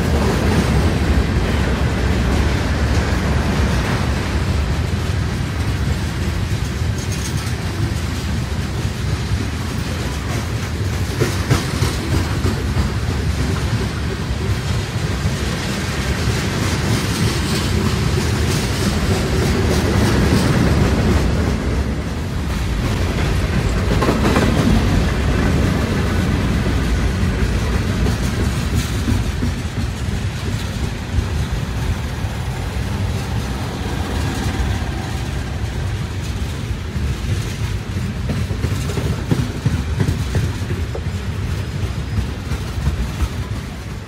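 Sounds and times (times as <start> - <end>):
freight train cars rolling past: 0.0 - 44.0.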